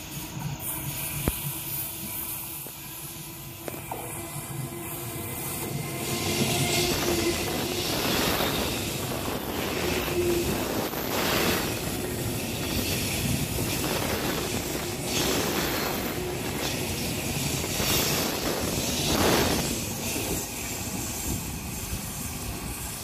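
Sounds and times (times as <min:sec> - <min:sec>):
train wheels on rail: 0:00.0 - 0:23.0.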